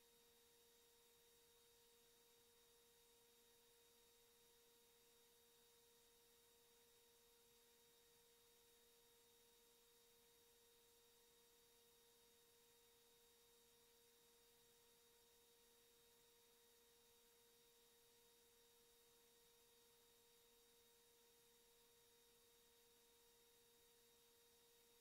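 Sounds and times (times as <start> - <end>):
faint steady tone: 0.0 - 25.0.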